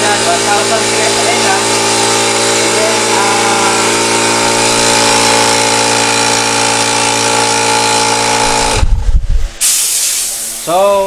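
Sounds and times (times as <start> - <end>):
air compressor running: 0.0 - 11.0
air hissing: 0.0 - 11.0.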